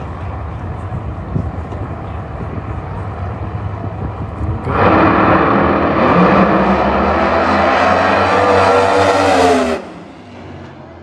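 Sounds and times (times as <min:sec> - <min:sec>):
drag race cars rumbling: 0:00.0 - 0:11.0.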